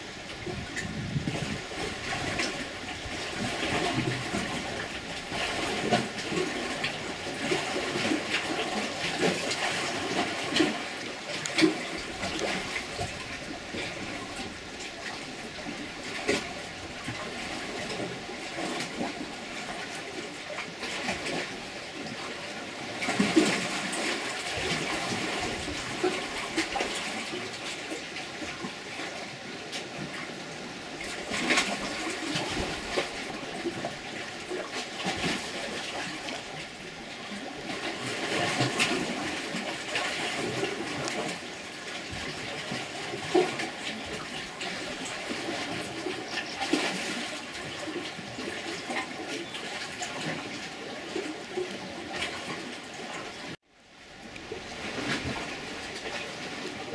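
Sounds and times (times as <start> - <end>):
water rushing and splashing: 0.0 - 56.9.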